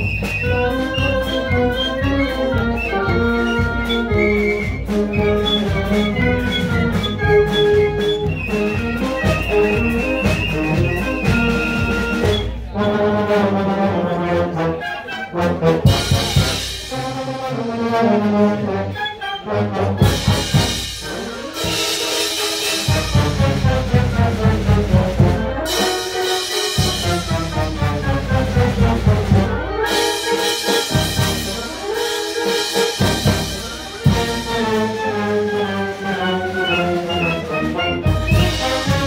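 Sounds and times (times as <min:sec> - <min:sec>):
concert band playing: 0:00.0 - 0:39.0.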